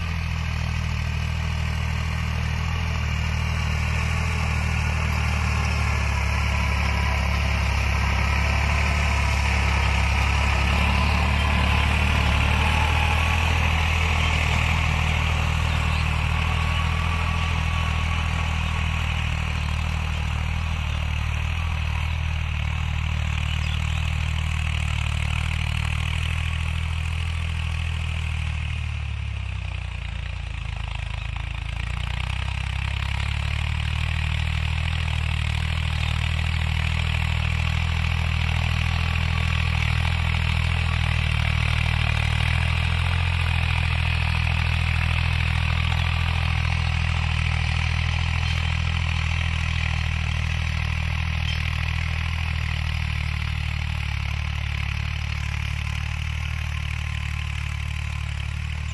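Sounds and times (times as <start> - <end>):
diesel tractor engine running: 0.0 - 58.9.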